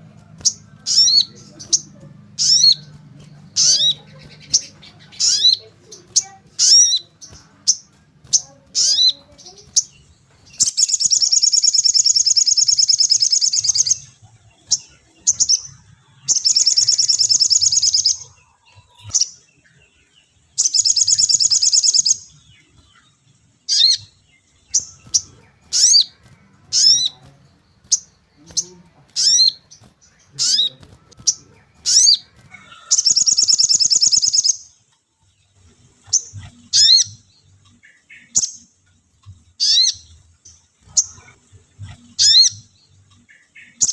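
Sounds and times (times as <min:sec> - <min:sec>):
bird chirping and trilling: 0:00.0 - 0:43.9.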